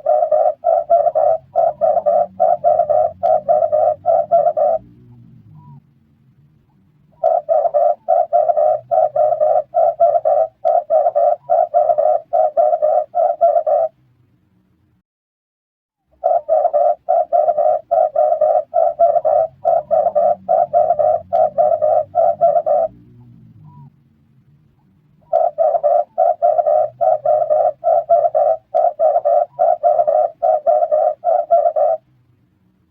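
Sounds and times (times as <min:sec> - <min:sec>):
dove cooing: 0:00.0 - 0:05.8, 0:07.1 - 0:14.0, 0:16.2 - 0:23.9, 0:25.2 - 0:32.1.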